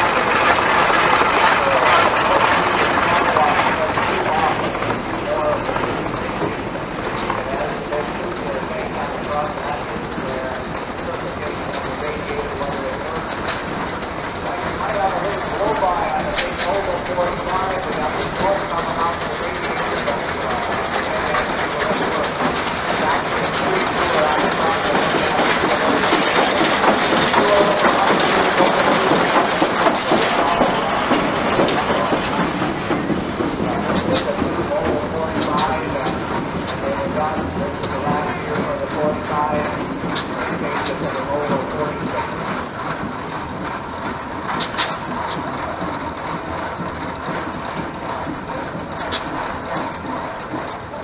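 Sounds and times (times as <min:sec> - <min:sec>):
tractor engine clattering: 0:00.0 - 0:51.0.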